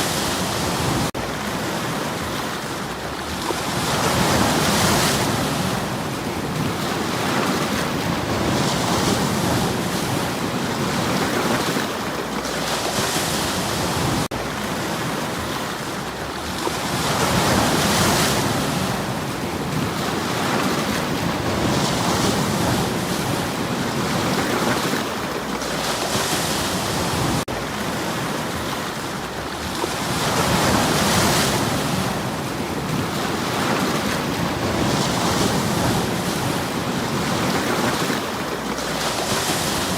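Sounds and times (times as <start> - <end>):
waves breaking on stony shore: 0.0 - 39.9.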